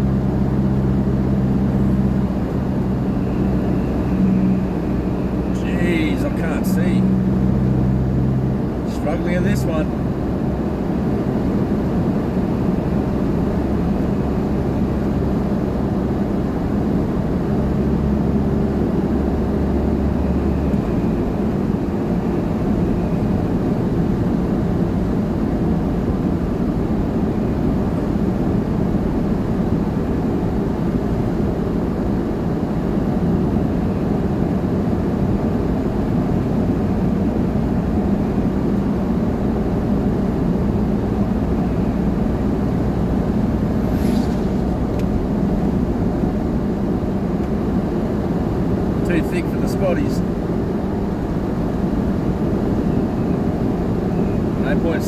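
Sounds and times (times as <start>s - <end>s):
engine and tyre noise in cab: 0.0s - 55.0s.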